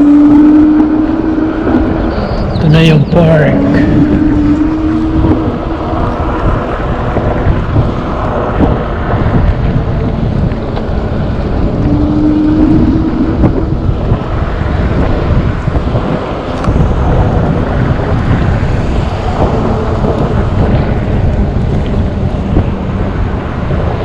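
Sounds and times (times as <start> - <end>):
steady hum: 0.0 - 24.0
wind buffeting microphone: 0.0 - 24.0.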